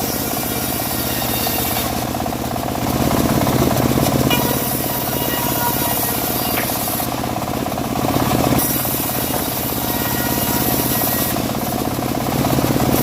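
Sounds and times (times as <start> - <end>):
bandsaw mill sawing wood: 0.0 - 13.0.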